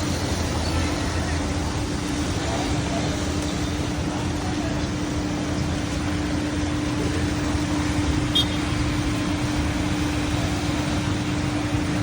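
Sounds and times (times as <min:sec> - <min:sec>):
vehicle low hum: 0:00.0 - 0:12.0.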